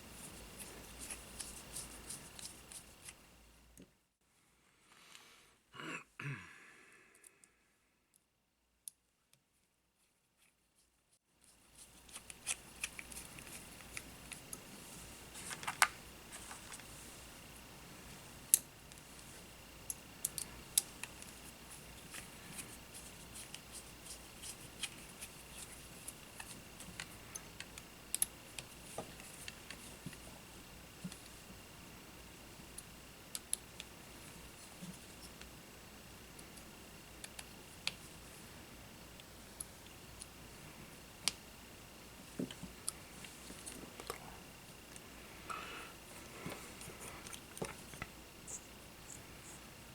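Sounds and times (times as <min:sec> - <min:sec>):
faint steady high hum: 0:00.0 - 0:09.1, 0:10.8 - 0:49.9.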